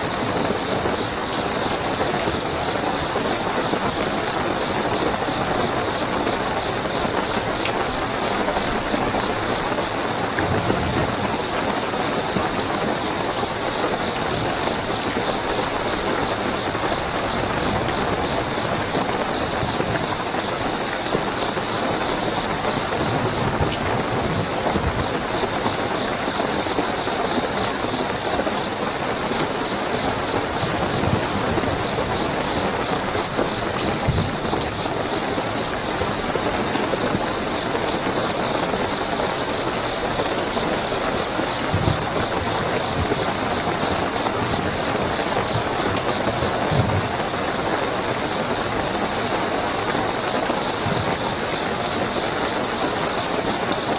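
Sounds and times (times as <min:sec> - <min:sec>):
crickets trilling: 0:00.0 - 0:53.9
heavy rainfall: 0:00.0 - 0:53.9.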